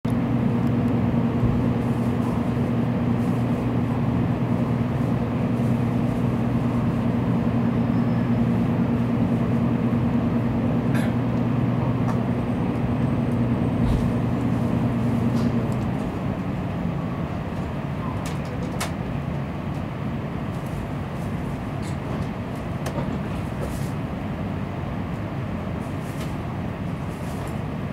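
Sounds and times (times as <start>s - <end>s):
rushing rail noise: 0.1s - 27.9s
train carriage hum: 0.1s - 27.9s.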